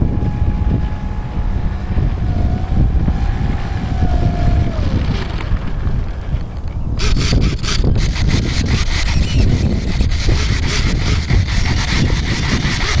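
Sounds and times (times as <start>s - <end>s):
model plane electric motor whine: 0.0s - 13.0s
wind buffeting microphone: 0.0s - 13.0s.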